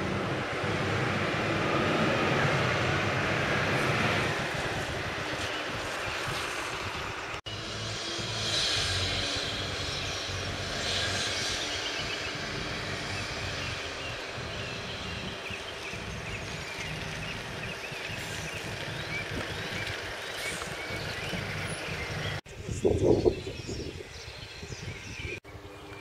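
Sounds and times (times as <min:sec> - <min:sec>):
bus engine running: 0:00.0 - 0:22.4.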